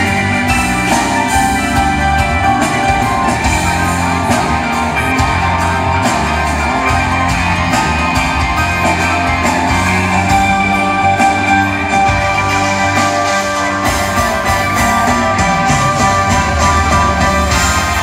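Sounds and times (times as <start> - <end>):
drums: 0.0 - 18.0
electric guitar: 0.0 - 18.0
live rock band playing: 0.0 - 18.0.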